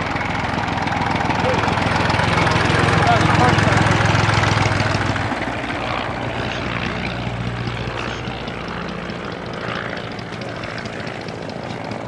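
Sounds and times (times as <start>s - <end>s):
biplane engine and propeller: 0.0s - 12.0s.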